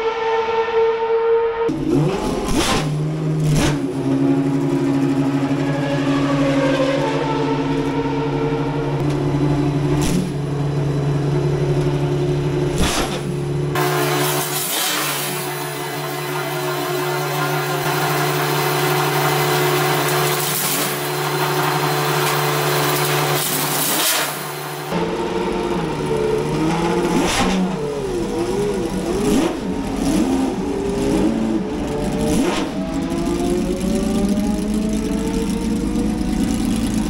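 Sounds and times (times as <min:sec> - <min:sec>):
race car engines revving: 0:01.6 - 0:37.0.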